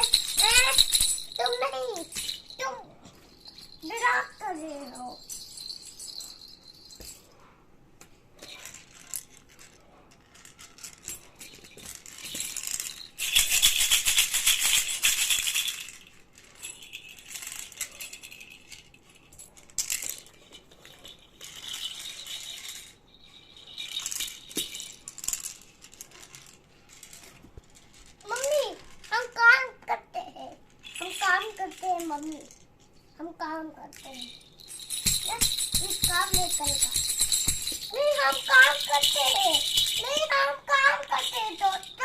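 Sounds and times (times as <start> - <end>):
toy rattle shaking: 0.0 - 7.4, 8.4 - 33.2, 33.8 - 42.0.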